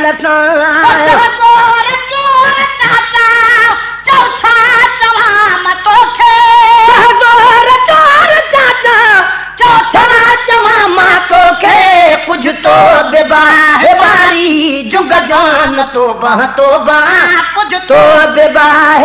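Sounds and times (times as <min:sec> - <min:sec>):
men singing devotional song: 0:00.0 - 0:19.0.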